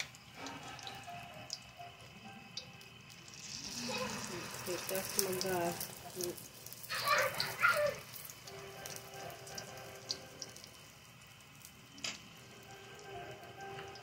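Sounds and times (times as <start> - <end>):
oil popping and crackling: 0.0 - 1.8, 2.4 - 14.0
omelettes frying in hot oil: 0.0 - 14.0.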